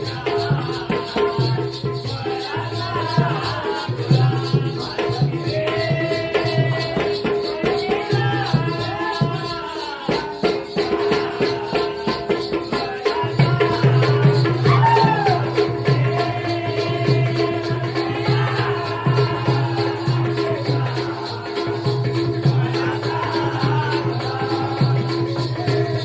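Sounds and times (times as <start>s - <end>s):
person singing: 0.0s - 26.0s.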